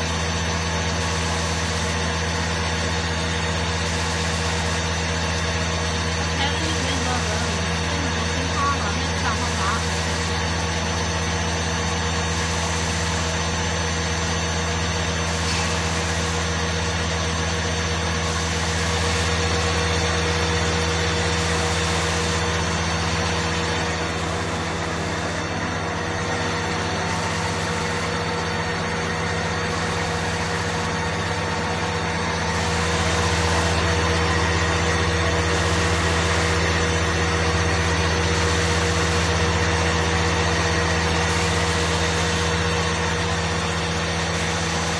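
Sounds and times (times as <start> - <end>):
drilling machine humming: 0.0 - 44.9.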